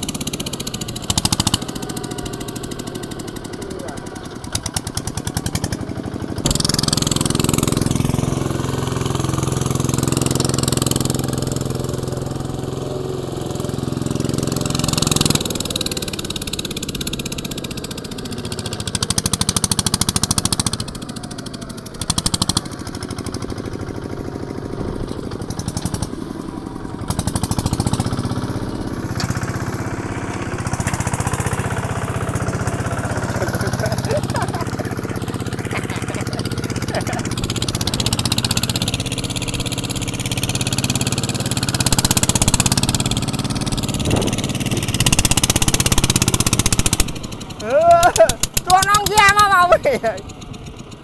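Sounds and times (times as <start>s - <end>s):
diesel tractor engine under load: 0.0s - 51.0s.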